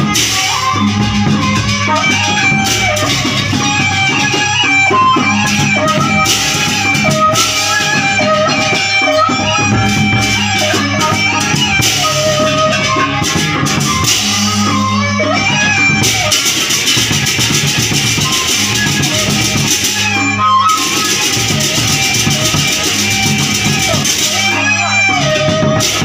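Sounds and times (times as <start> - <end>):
bamboo flute melody: 0.0 - 26.0
big drums beating: 0.0 - 26.0.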